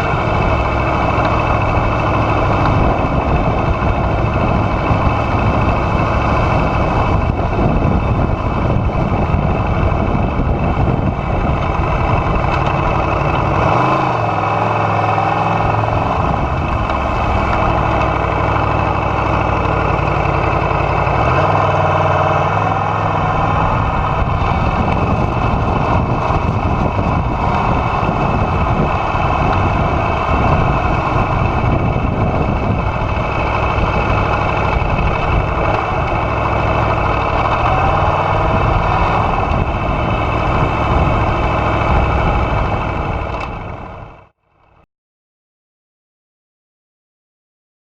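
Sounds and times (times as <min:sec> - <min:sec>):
motorcycle engine running: 0:00.0 - 0:44.8.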